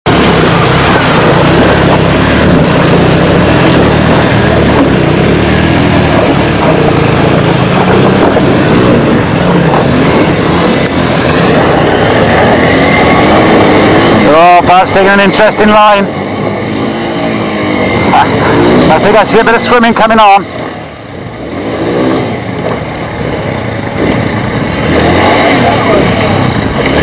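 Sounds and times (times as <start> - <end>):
loud steady rushing noise: 0.0 - 27.0
motorcycle engines revving: 0.0 - 27.0.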